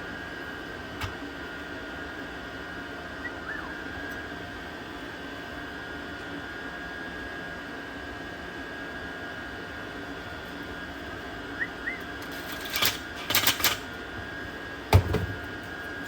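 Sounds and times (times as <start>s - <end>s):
heater fan whirring with whine: 0.0s - 16.0s.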